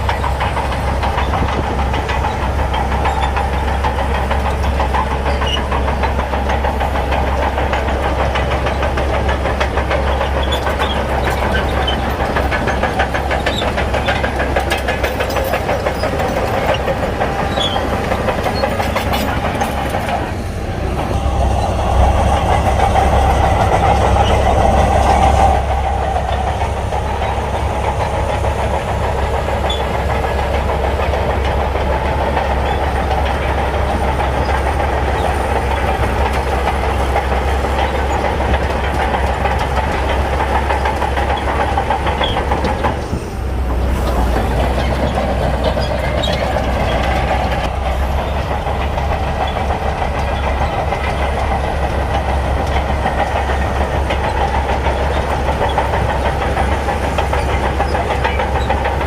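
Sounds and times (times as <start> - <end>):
bulldozer diesel engine: 0.0 - 59.0
steel tracks clattering: 0.0 - 59.0.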